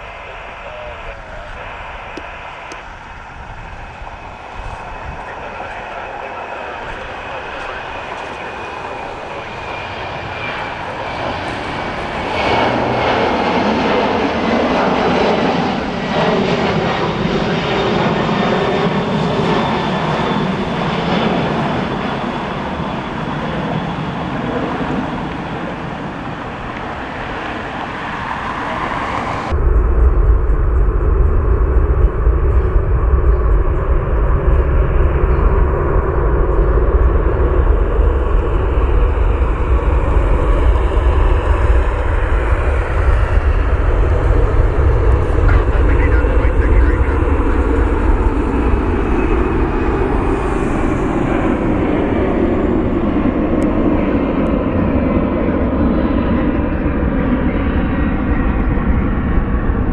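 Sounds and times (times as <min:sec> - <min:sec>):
heavy deep rumble: 0:00.0 - 0:59.9
jet engines passing: 0:00.0 - 0:59.9.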